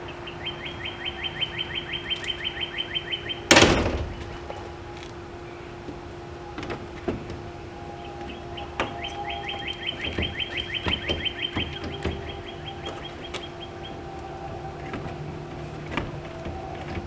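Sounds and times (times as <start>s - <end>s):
bird trilling: 0.0s - 17.0s
steady low hum: 0.0s - 17.0s.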